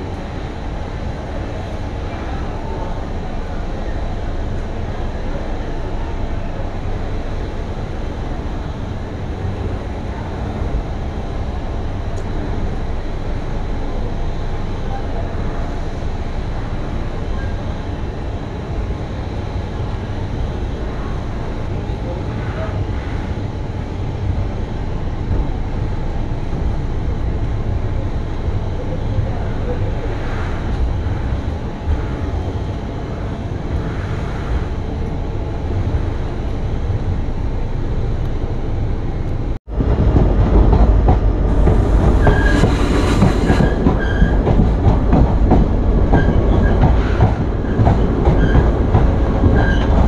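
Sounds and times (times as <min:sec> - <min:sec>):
train wheels rumbling: 0:00.0 - 0:50.0.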